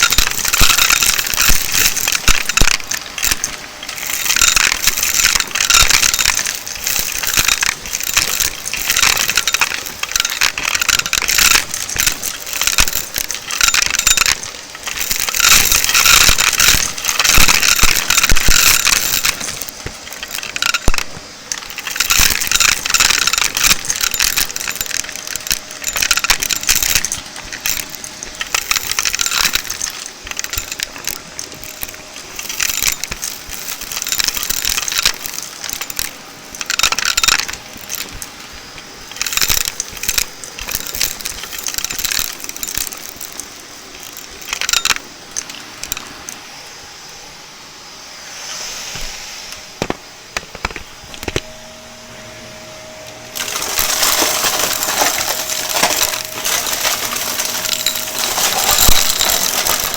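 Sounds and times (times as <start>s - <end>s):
vacuum sucking up crunchy debris: 0.0s - 46.4s, 53.0s - 59.9s
vacuum motor hum: 0.0s - 59.9s.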